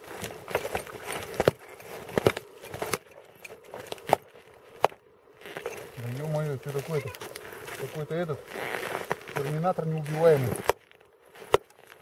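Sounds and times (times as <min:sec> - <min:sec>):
light rustling: 0:00.0 - 0:12.0.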